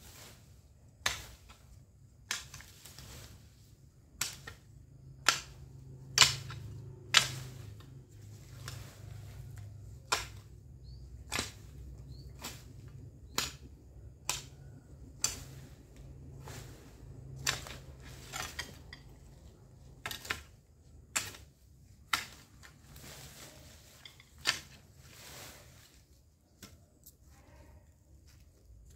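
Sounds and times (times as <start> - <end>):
hoe chopping into soil: 1.0 - 1.6, 2.2 - 25.9.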